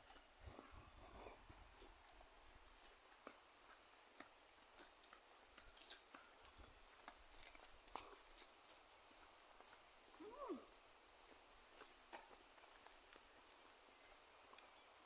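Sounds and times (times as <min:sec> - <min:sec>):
footsteps crunching on dirt trail: 0:01.4 - 0:14.3.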